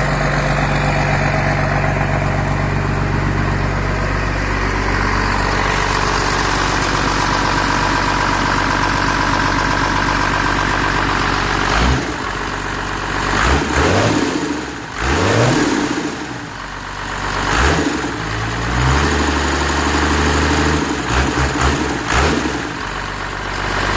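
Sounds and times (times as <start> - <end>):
diesel engine idling and revving: 0.0 - 23.9.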